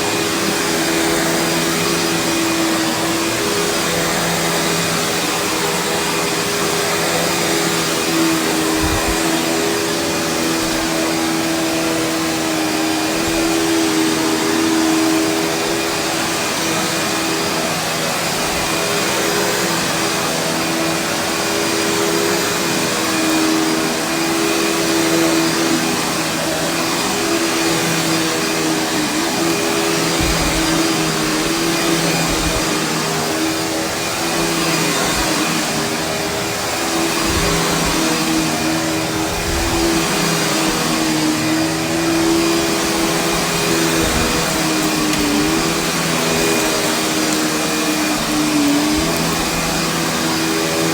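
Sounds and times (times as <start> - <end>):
vacuum cleaner on carpet: 0.0 - 50.9.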